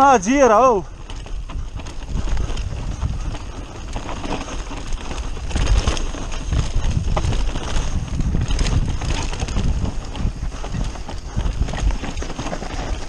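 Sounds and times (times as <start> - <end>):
tyre and wind rumble: 0.0 - 13.0
bike knocks and rattles: 0.6 - 13.0.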